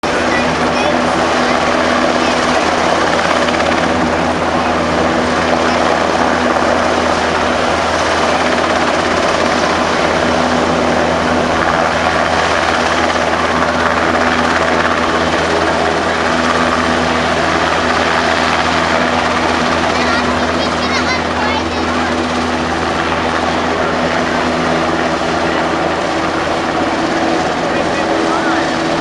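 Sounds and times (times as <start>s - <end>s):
helicopter flying: 0.0s - 29.0s.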